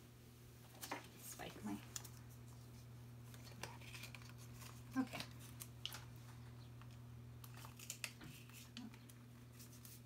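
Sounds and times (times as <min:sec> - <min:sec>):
steady low hum: 0:00.0 - 0:10.0
plastic rustling: 0:00.6 - 0:10.0.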